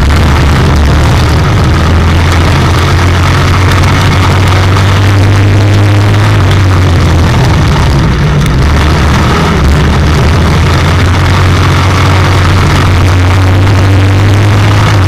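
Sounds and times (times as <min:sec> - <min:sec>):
racing car engine at speed: 0:00.0 - 0:15.0.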